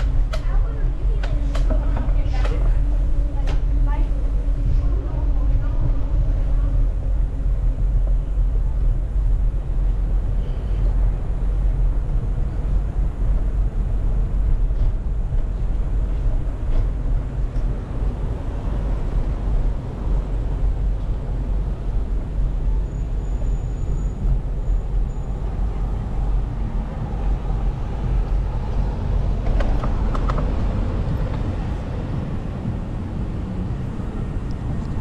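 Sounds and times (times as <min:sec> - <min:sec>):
road noise: 0:00.0 - 0:35.0
wind noise on microphone: 0:00.0 - 0:35.0.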